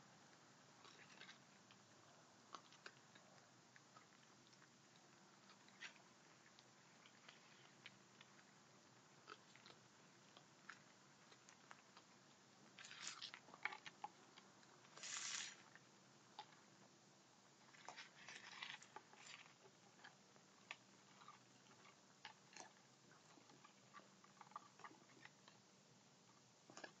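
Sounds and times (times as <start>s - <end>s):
animals crunching dry kibble: 0.3s - 16.6s, 17.6s - 25.6s.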